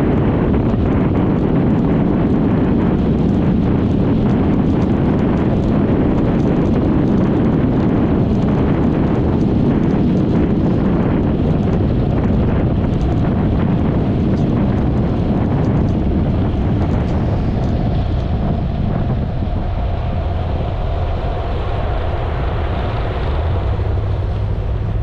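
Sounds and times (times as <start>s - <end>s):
road noise: 0.0s - 25.0s
wind rushing over microphone: 0.0s - 25.0s.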